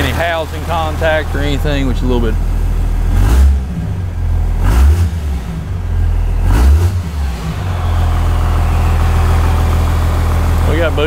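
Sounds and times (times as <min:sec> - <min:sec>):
diesel engine revving and idling: 0:00.0 - 0:11.0.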